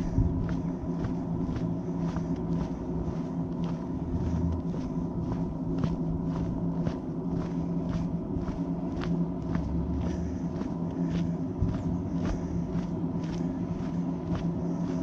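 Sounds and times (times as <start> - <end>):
footsteps on a trail: 0.0 - 15.0
steady low hum: 0.0 - 15.0.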